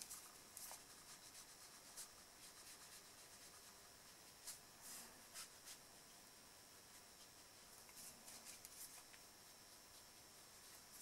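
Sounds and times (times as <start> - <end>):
brush bristles scratching on card: 0.0 - 11.0.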